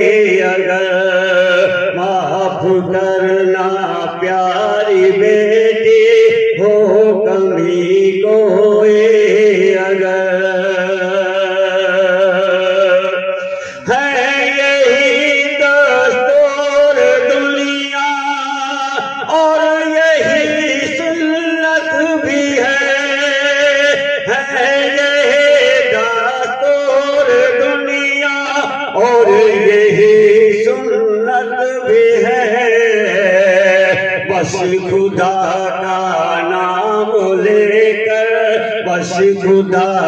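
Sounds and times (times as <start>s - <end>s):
man singing into a microphone: 0.0s - 40.0s.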